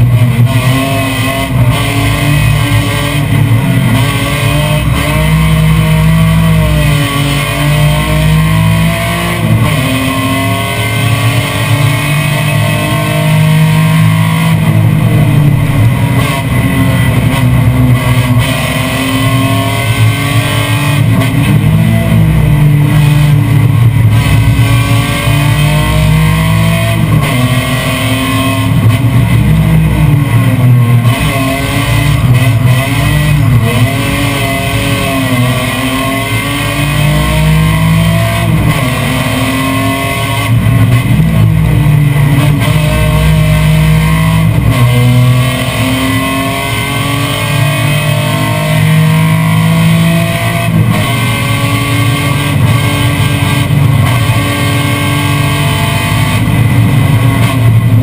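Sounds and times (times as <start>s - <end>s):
race car engine revving: 0.0s - 58.0s
rock music with guitar: 0.0s - 58.0s.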